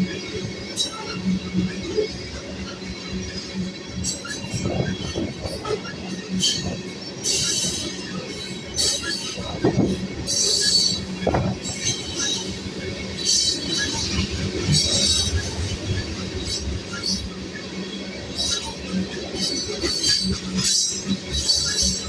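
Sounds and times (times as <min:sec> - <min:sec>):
freight train rumbling past: 0:00.0 - 0:22.0
train wheels squealing: 0:00.0 - 0:22.0.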